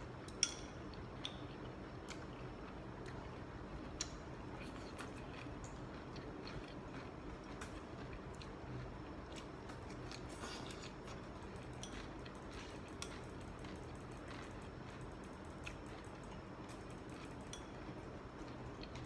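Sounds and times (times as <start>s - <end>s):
low background hum: 0.0s - 19.0s
person chewing food: 0.3s - 19.0s.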